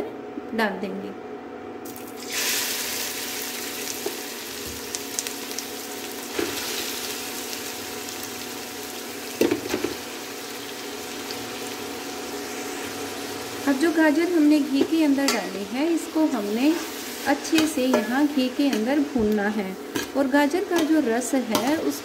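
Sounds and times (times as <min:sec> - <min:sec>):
carrots sizzling in a pan: 0:02.1 - 0:22.0.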